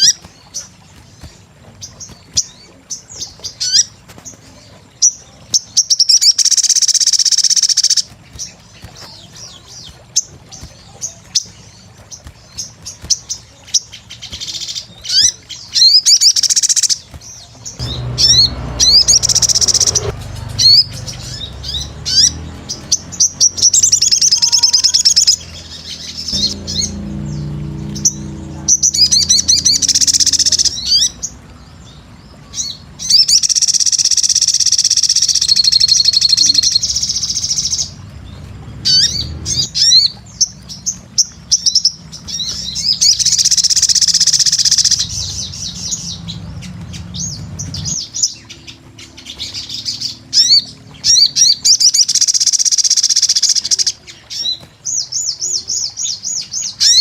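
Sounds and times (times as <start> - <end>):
sunbird high-pitched twittering: 0.0 - 57.0.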